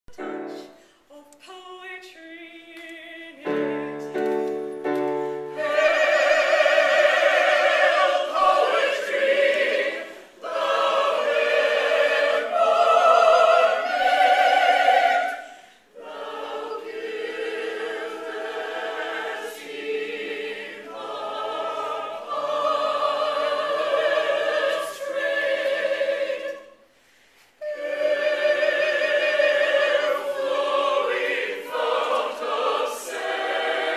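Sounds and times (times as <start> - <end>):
choir singing: 3.2 - 33.9.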